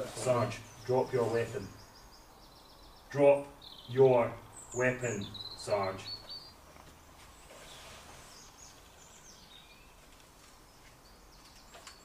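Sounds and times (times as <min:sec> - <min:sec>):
birds chirping: 0:00.0 - 0:12.0
faint outdoor ambience: 0:00.0 - 0:12.0.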